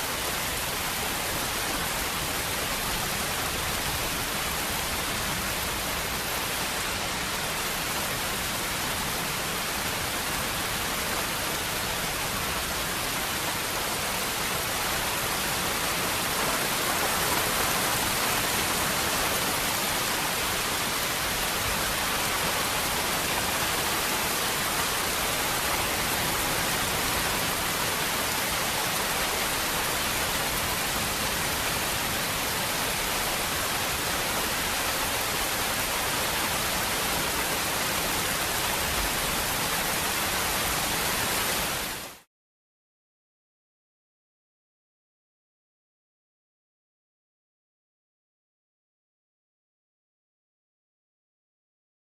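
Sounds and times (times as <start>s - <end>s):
heavy rain: 0.0s - 42.2s.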